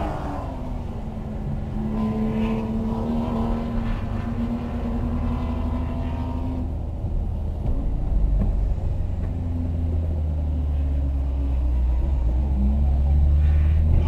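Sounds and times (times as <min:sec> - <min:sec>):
car engine at low revs: 0:00.0 - 0:14.0.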